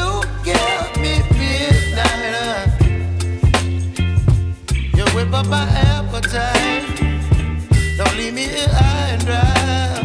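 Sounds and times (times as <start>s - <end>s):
background music with drums and bass: 0.0s - 10.0s.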